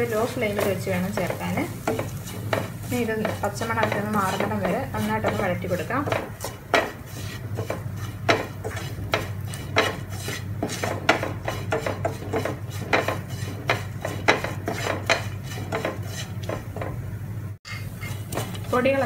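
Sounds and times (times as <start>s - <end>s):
wooden spatula scraping a pan: 0.0s - 17.0s, 17.7s - 19.0s
light sizzle: 0.0s - 19.0s.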